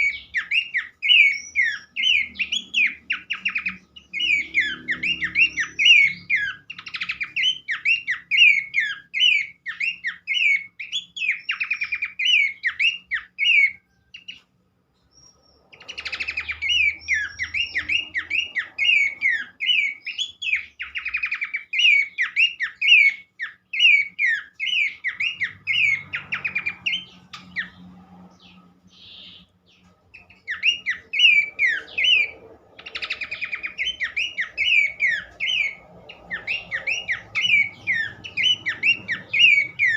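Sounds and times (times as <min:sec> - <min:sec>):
bird chirping whistled song: 0:00.0 - 0:14.4, 0:15.0 - 0:39.9.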